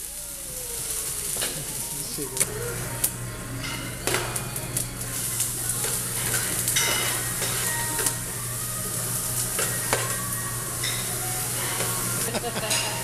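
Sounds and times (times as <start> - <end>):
vegetables sizzling on griddle: 0.0 - 13.0
metal utensils clicking and scraping: 1.0 - 8.2, 9.0 - 13.0.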